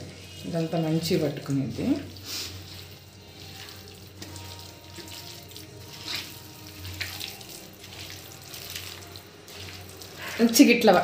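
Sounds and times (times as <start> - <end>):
hand squelching marinade: 0.6 - 10.5.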